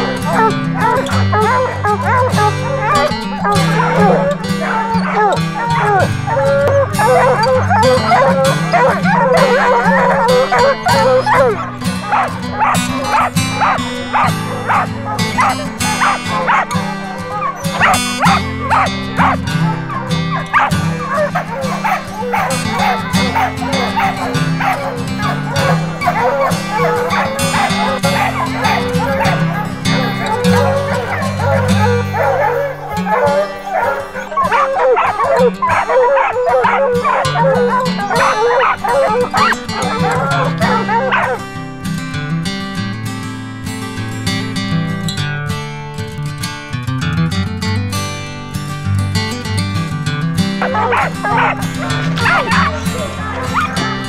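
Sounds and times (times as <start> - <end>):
dogs barking: 0.0 - 41.8, 50.4 - 54.0
background music: 0.0 - 45.0, 47.7 - 54.0.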